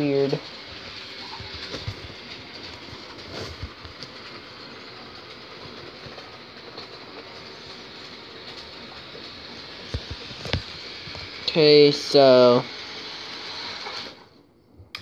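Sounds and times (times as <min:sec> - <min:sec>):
model train motor whirring: 0:00.0 - 0:14.3.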